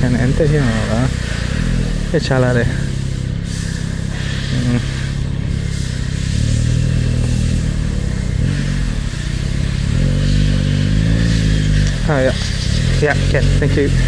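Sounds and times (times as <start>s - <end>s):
motorcycle engine at low speed: 0.0s - 14.0s.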